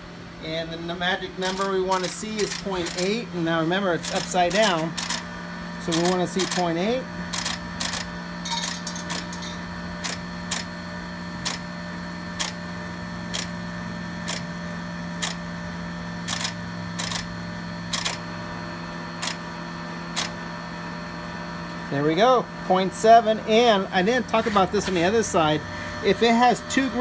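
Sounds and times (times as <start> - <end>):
brake lathe humming: 0.0 - 27.0.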